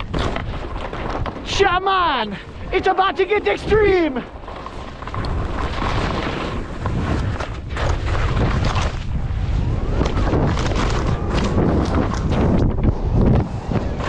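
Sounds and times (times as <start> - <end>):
skis scraping over snow: 0.0 - 14.0
wind buffeting microphone: 0.0 - 14.0.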